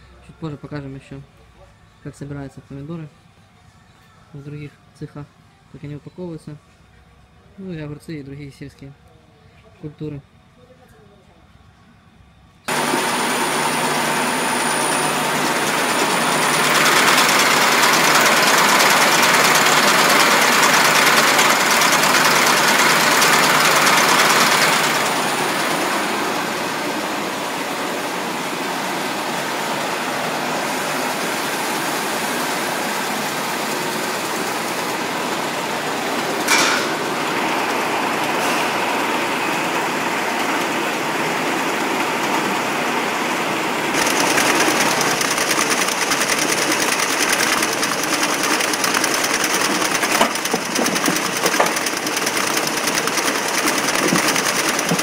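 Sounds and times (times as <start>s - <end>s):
conveyor machine noise: 0.0s - 55.0s.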